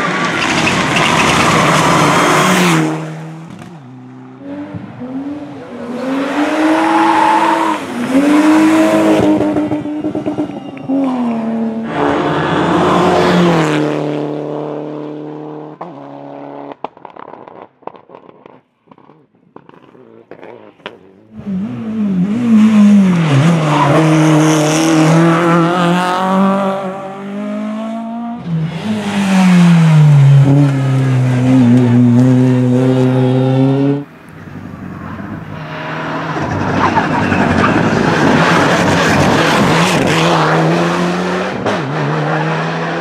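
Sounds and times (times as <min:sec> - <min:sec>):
rally car engines at high revs: 0:00.0 - 0:34.1, 0:35.1 - 0:43.0.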